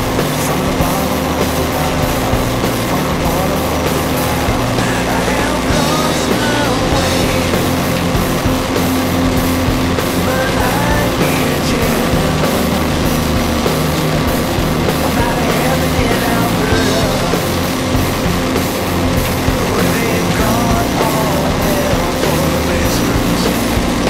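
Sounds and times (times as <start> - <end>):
background rock music: 0.0 - 24.0.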